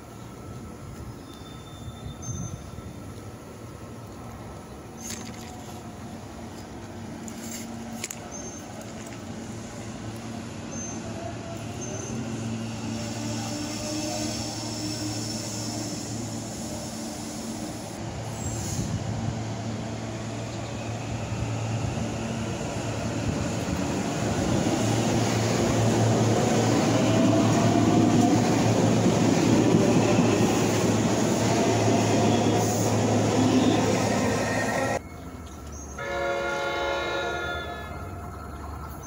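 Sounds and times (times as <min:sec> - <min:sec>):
electric train passing: 0:05.8 - 0:39.0.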